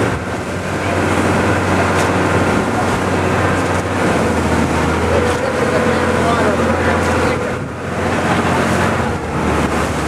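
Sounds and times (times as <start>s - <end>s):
boat engine running: 0.0s - 10.0s
water rushing past hull: 0.0s - 10.0s
wind: 0.0s - 10.0s.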